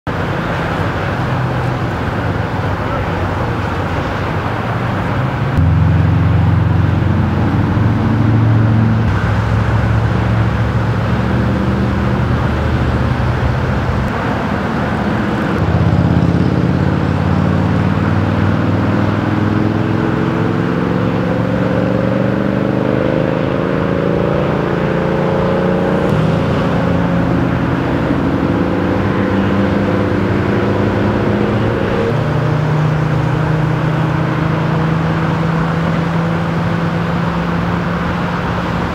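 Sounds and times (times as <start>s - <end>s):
road traffic: 0.0s - 38.9s
engine pitch climbing: 0.1s - 38.9s.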